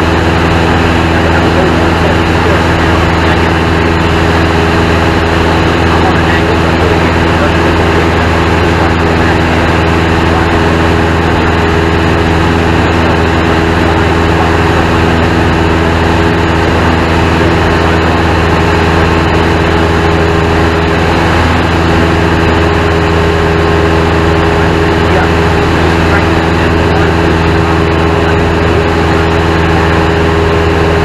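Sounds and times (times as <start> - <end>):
airplane engine drone in cockpit: 0.0 - 31.0.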